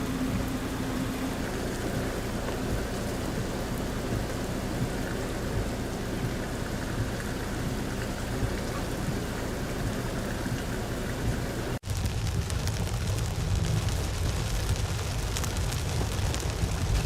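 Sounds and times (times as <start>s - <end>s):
heavy rain hissing on ground: 0.0s - 17.0s
low rumble: 0.0s - 17.0s.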